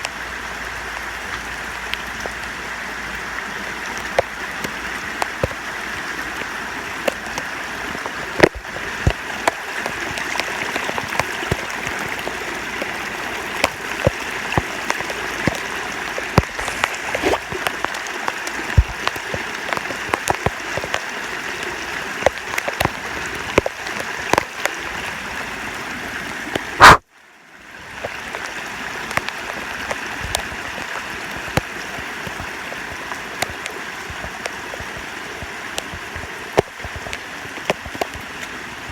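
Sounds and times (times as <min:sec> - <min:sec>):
rainwater rushing down stairs: 0:00.0 - 0:27.0, 0:27.8 - 0:38.9
rain drips and splashes: 0:00.0 - 0:38.9.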